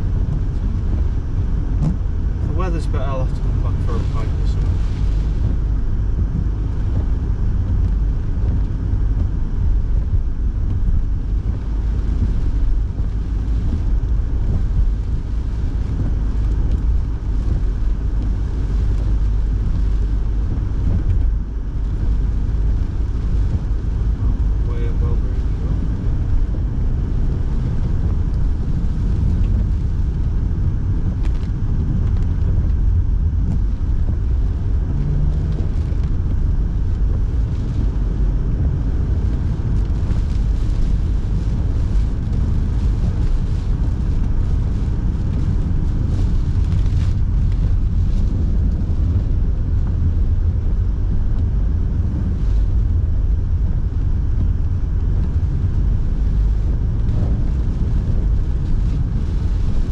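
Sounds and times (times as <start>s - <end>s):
car interior rumble: 0.0s - 59.9s
heater fan blowing: 0.0s - 59.9s.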